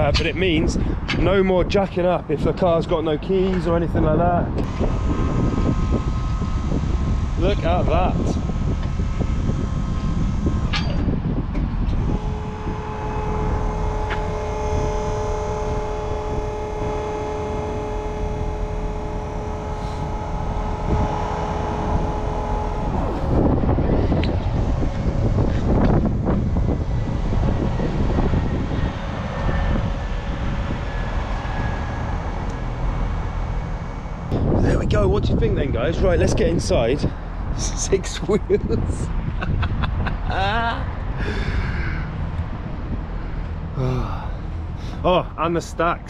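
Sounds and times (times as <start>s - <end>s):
diesel engine idling: 0.0s - 46.0s
hydraulic lift mechanical drone: 0.0s - 46.0s
steady whine: 0.0s - 46.0s.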